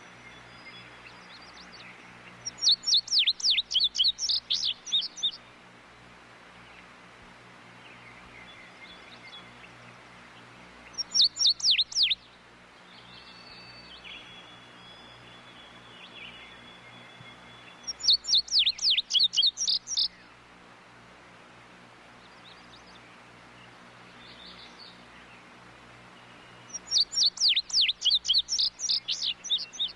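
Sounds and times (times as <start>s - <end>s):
faint calls of other birds: 0.0s - 29.9s
low steady hum: 0.0s - 29.9s.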